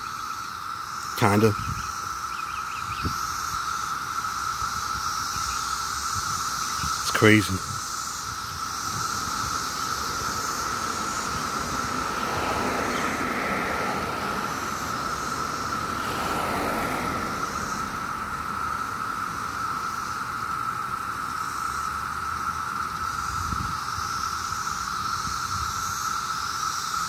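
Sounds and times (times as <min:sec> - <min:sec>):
cicadas droning: 0:00.0 - 0:27.0
passing cars: 0:00.0 - 0:27.0.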